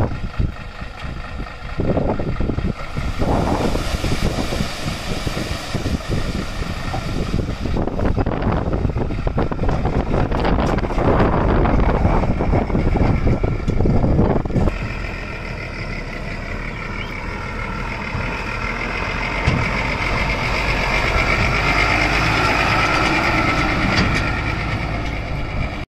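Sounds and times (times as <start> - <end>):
wind buffeting microphone: 0.0 - 25.8
diesel truck engine running: 0.0 - 25.9.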